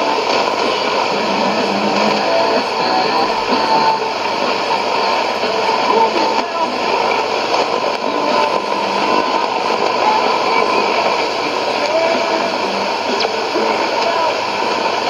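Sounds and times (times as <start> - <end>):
faint radio broadcast audio: 0.0 - 15.0
radio static: 0.0 - 15.0.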